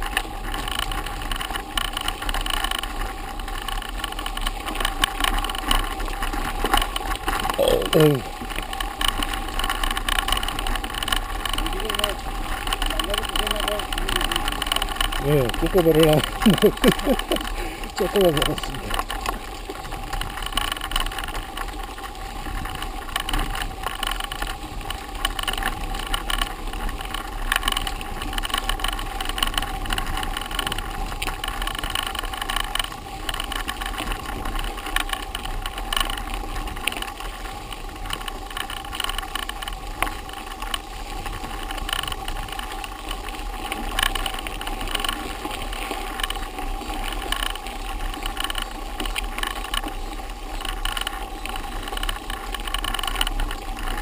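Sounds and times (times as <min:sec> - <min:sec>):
bike rattling over bumps: 0:00.0 - 0:54.0
bike tyres on dirt road: 0:00.0 - 0:54.0.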